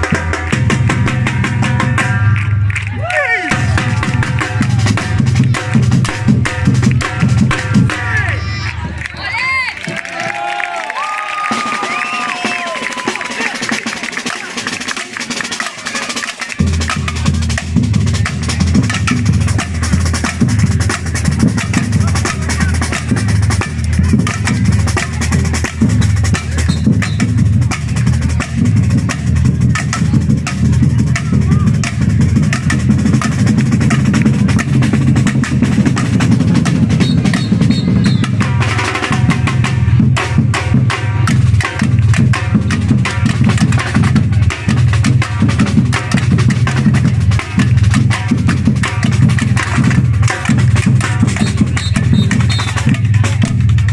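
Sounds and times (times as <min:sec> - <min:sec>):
rattling snare drums: 0:00.0 - 0:02.5, 0:03.4 - 0:08.3, 0:11.5 - 0:53.9
bass drums: 0:00.0 - 0:10.4, 0:11.4 - 0:53.9.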